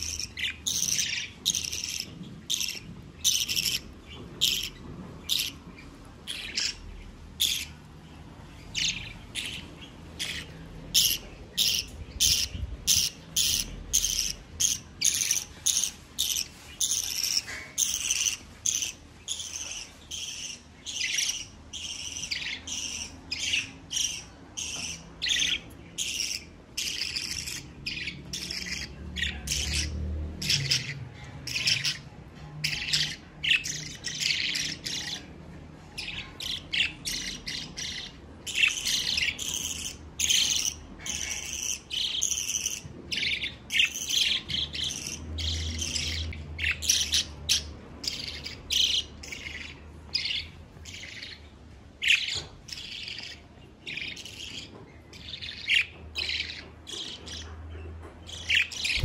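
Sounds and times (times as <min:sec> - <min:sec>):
budgerigar chicks chirping: 0:00.0 - 0:59.0.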